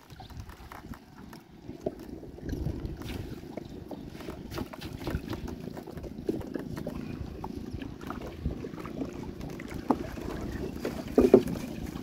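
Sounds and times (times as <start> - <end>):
water lapping against boat: 0.0 - 12.0
wind buffeting microphone: 0.0 - 12.0.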